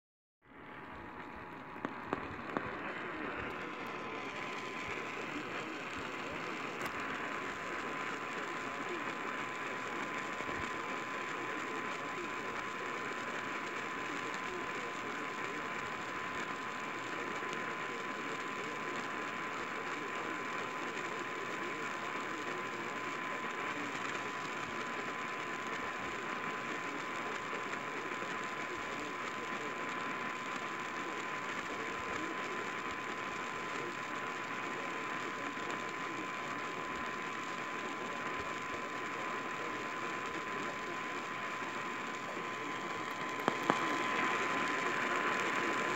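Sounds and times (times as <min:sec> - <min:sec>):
radio static hiss: 0:00.4 - 0:45.9.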